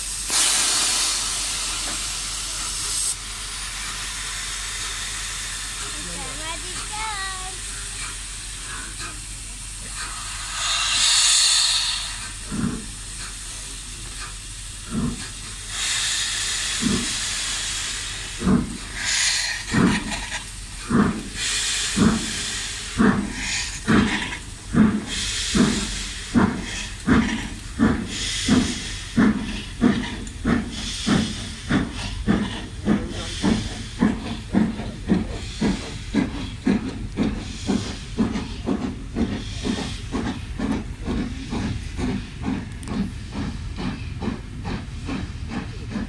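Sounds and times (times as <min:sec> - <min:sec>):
steam hissing: 0:00.0 - 0:46.0
steam locomotive exhaust beats: 0:00.0 - 0:46.0.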